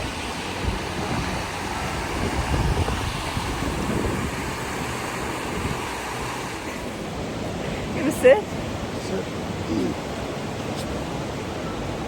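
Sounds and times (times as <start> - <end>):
wind gusting on microphone: 0.0 - 10.2
steady outdoor rushing noise: 0.0 - 12.0.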